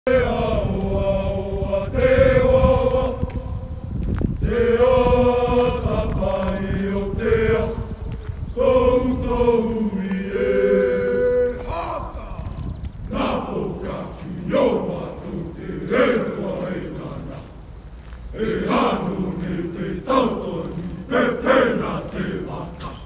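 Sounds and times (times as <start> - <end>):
group singing slow song: 0.1 - 17.7, 18.3 - 23.0.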